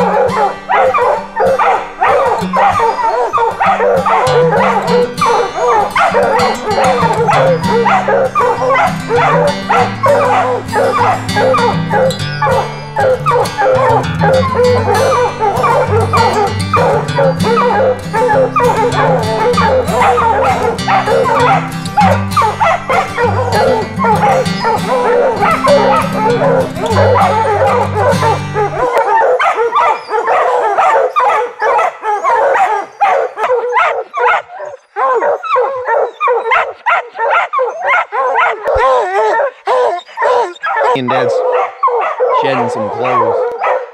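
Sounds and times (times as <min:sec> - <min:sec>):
hounds barking and baying: 0:00.0 - 0:43.9.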